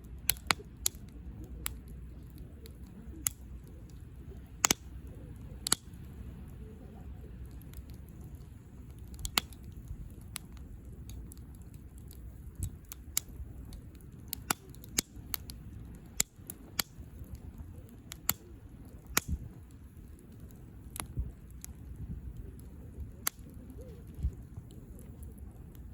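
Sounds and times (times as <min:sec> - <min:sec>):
burning wood popping: 0:00.0 - 0:25.9
campfire crackling: 0:00.0 - 0:25.9.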